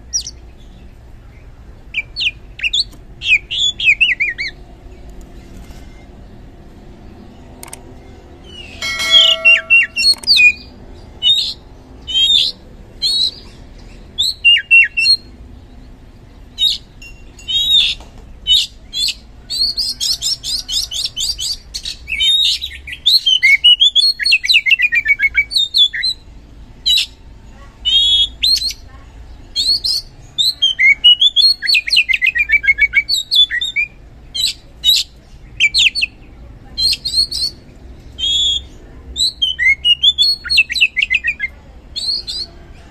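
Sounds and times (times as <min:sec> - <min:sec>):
songbird singing varied phrases: 0:00.0 - 0:05.2, 0:06.0 - 0:42.9.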